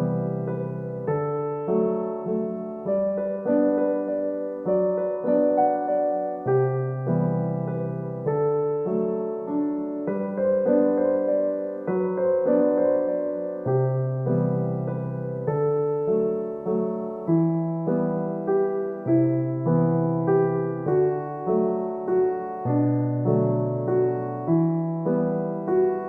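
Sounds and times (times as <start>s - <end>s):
soft electric piano chords: 0.0s - 26.0s.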